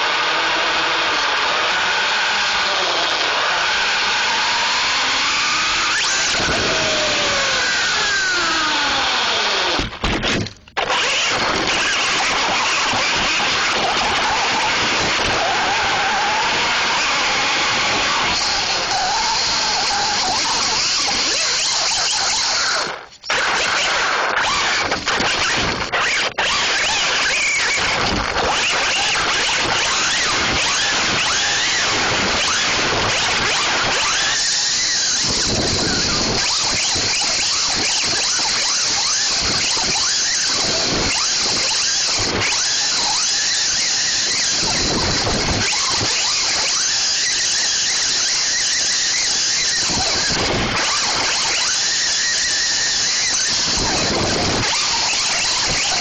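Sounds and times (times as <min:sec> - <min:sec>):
electric toy truck motor whining: 0:00.0 - 0:56.0.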